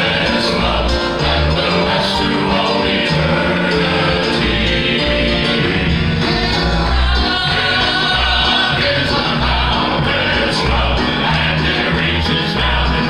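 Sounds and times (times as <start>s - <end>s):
male vocal group singing harmony: 0.0s - 13.0s
piano and band with heavy bass: 0.0s - 13.0s.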